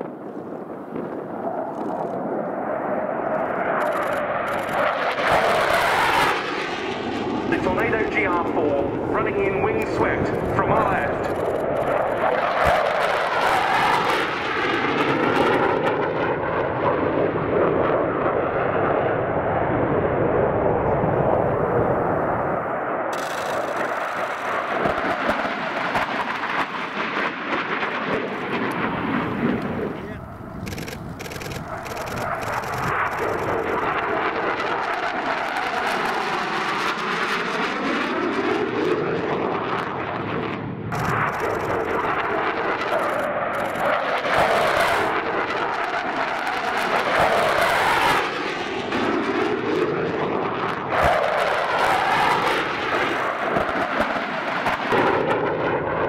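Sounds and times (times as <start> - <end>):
jet passing low: 0.0 - 56.0.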